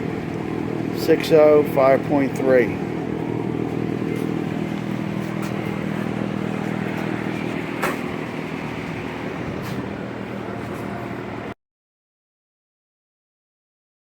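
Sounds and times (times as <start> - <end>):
motor droning: 0.0 - 11.6.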